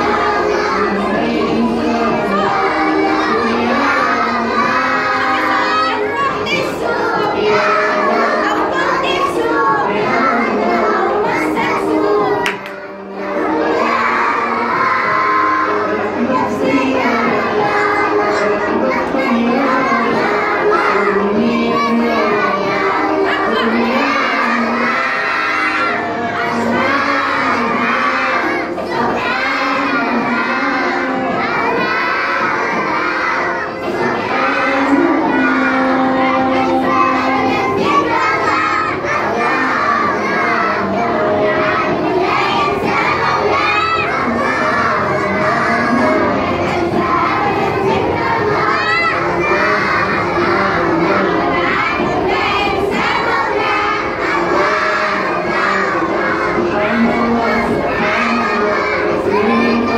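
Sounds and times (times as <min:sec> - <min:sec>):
children singing in unison: 0:00.0 - 0:59.9.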